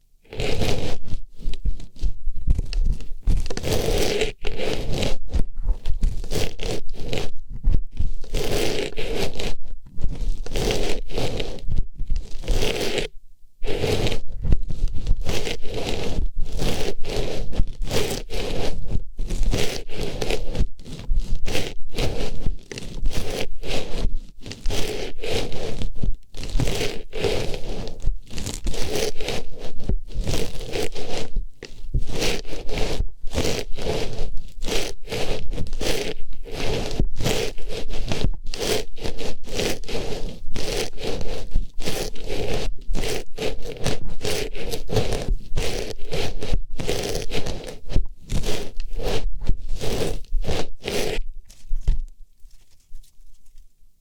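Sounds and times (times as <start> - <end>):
artificial flower rustling in ear: 0.0 - 53.8.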